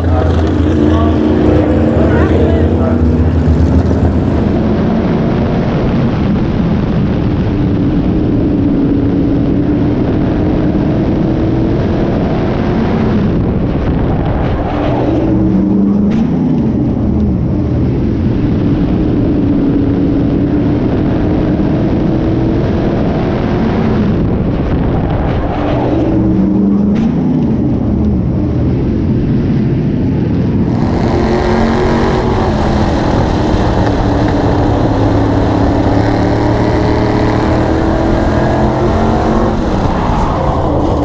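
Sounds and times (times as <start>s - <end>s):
rushing noise: 0.0s - 16.3s, 17.4s - 41.0s
race car engine running hard: 0.0s - 41.0s.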